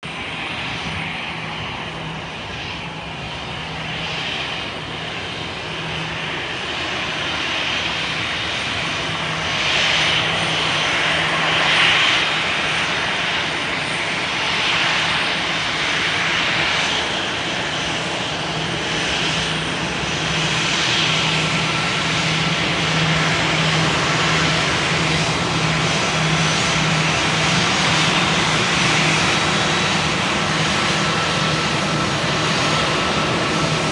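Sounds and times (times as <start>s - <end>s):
airplane engine roar: 0.0s - 33.9s.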